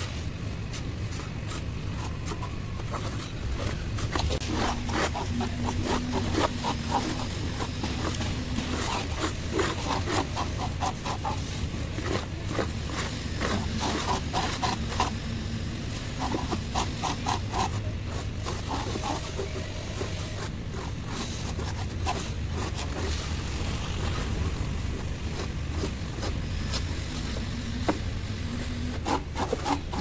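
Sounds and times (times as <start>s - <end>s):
trowel scraping wet plaster: 0.7s - 15.2s, 15.9s - 30.0s.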